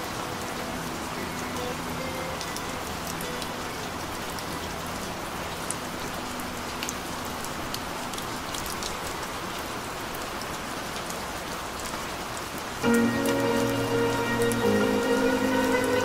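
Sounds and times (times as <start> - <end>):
raindrop ticks: 0.0 - 16.0
steady rain: 0.0 - 16.0.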